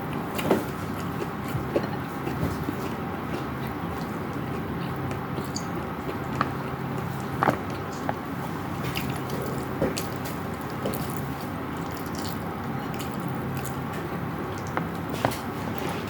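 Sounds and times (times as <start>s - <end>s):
steady low hum: 0.0s - 16.0s
person chewing: 0.9s - 16.0s.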